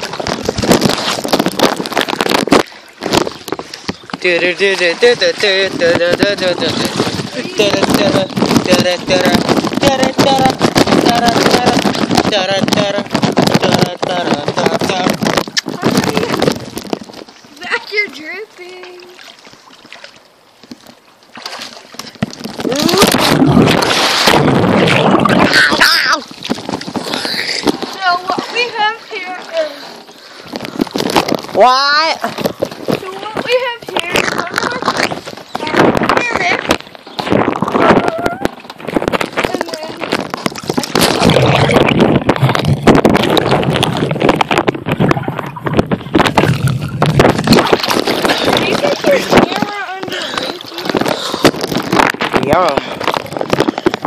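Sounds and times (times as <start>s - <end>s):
bubbling water underwater: 0.0s - 17.8s, 19.1s - 29.3s, 30.0s - 54.0s
plastic bag crinkling and knocking: 0.0s - 17.9s, 21.9s - 28.9s, 30.5s - 54.0s.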